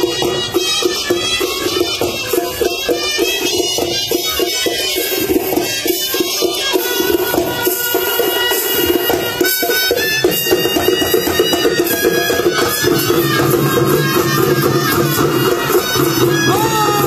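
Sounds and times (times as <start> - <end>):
high wind instrument melody: 0.0 - 17.0
steady drumming: 0.0 - 17.0.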